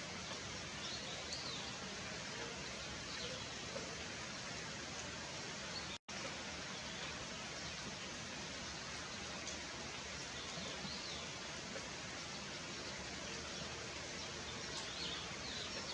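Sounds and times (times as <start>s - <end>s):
steady rain hiss: 0.0s - 15.9s.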